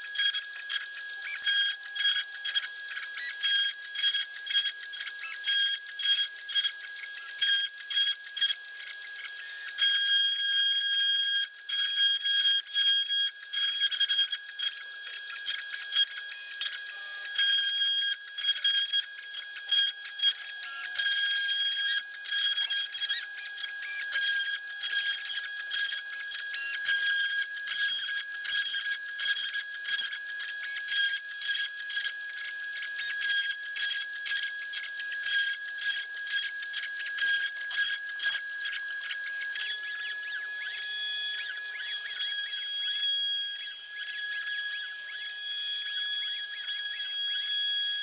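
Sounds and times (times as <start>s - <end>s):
bit cutting wood: 0.0s - 48.0s
router spindle whining: 0.0s - 48.0s.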